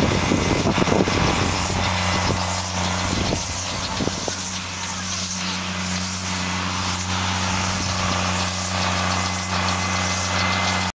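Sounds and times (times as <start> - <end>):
tractor diesel engine droning: 0.0 - 10.9.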